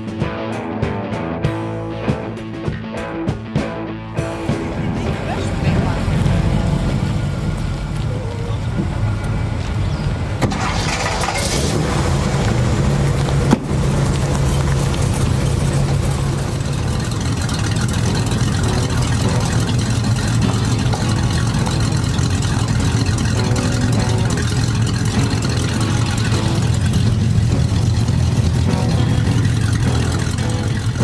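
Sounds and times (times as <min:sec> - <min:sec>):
car engines running: 0:04.1 - 0:31.0.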